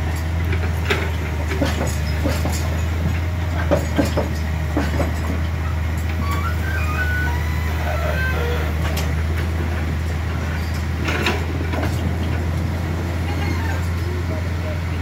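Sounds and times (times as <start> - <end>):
truck engine low drone: 0.0 - 15.0.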